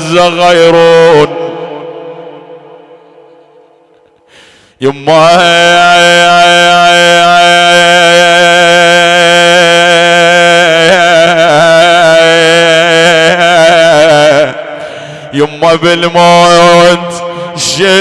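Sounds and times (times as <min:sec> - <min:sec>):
man singing wailing note: 0:00.0 - 0:03.3, 0:04.8 - 0:18.0.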